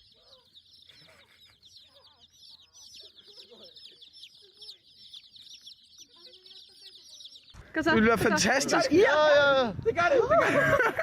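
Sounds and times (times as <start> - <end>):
chickens clucking: 0.0 - 9.1
chicks cheeping: 0.0 - 9.1.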